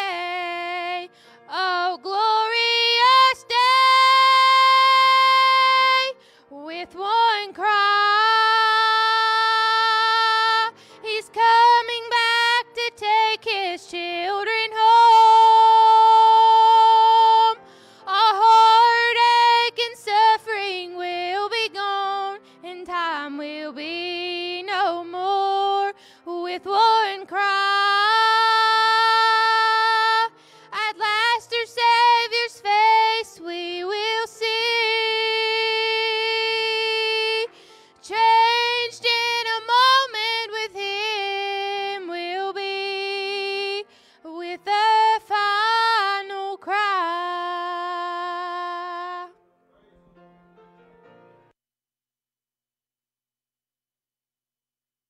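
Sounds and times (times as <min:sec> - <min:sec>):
woman singing gospel: 0:00.0 - 0:49.3.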